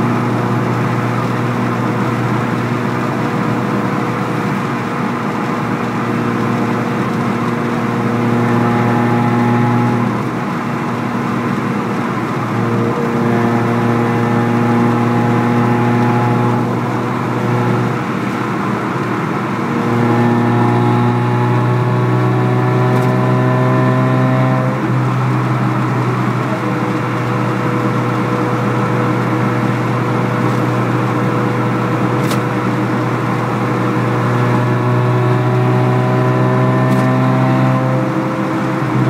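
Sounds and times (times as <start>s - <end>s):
car engine droning in cabin: 0.0s - 39.0s.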